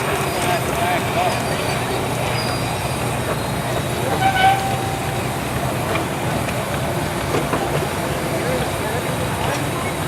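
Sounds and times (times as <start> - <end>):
steam engine mechanical din: 0.0 - 8.3.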